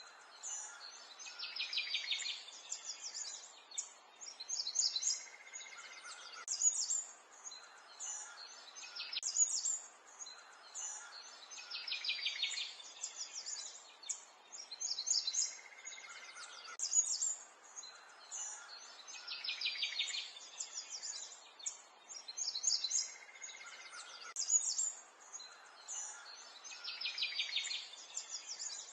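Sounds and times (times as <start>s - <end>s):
small birds chirping and trilling: 0.0s - 28.9s.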